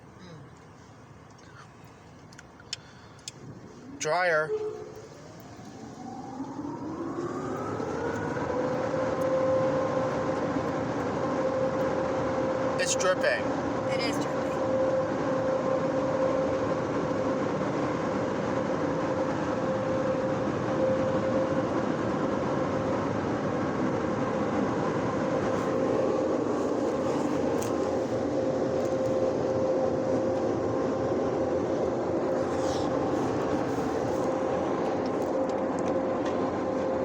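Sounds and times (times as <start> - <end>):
car wash dryer blowers: 3.4 - 37.0.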